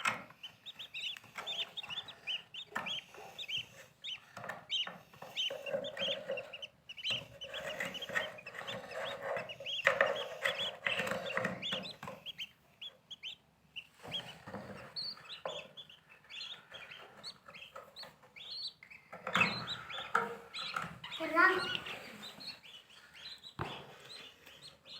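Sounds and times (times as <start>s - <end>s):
birds calling: 0.0s - 24.9s.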